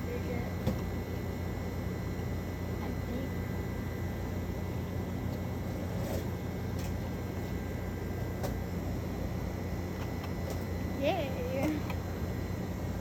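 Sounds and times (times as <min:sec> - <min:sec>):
low hum and hiss of air handling: 0:00.0 - 0:13.0.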